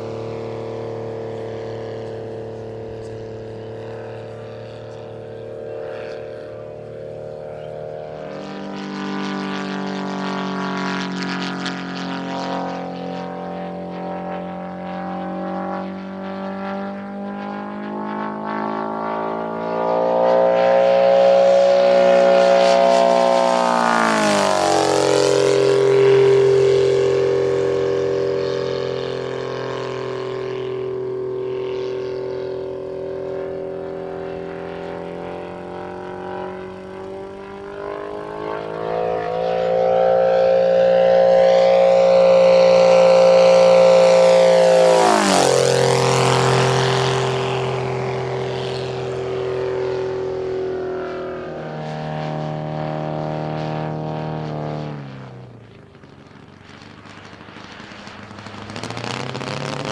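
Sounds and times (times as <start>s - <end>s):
model plane engine and propeller: 0.0s - 59.9s.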